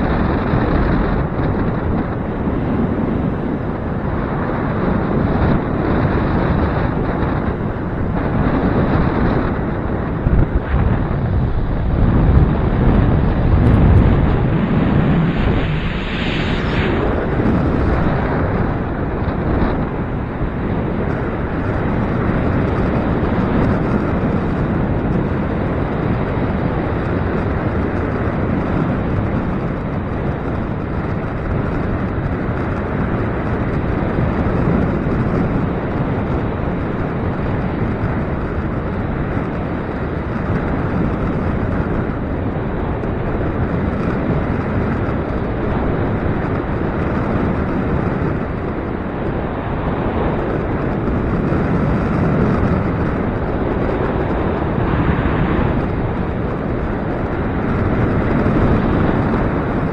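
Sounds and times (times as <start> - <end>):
wind blowing across microphone: 0.0 - 59.9.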